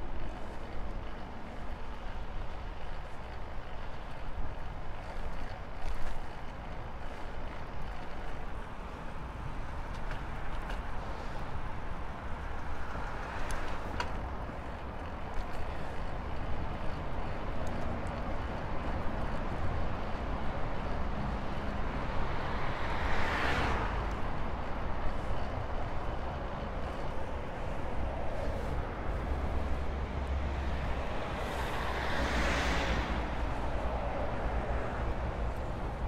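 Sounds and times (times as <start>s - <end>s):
bicycle rolling road noise: 0.0s - 36.0s
wind: 0.0s - 36.0s.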